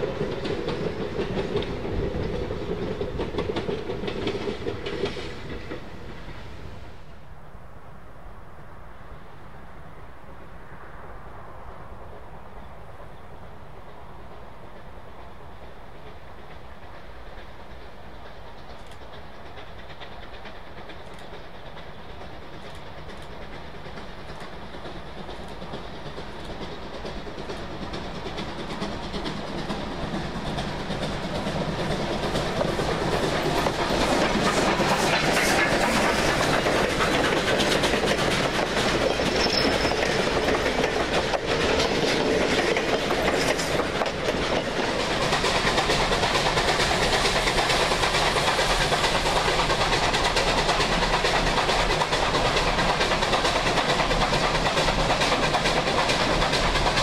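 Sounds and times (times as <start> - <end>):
train wheels clattering on track: 0.0 - 7.3, 12.0 - 57.0.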